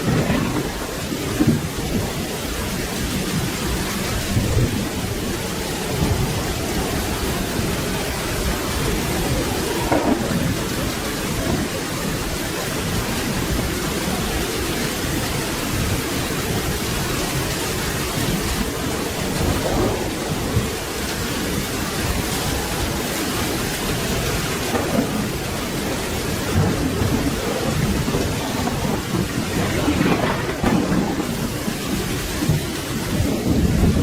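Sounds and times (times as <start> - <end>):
steady rain: 0.0 - 34.0
thunder rumbling: 0.0 - 34.0.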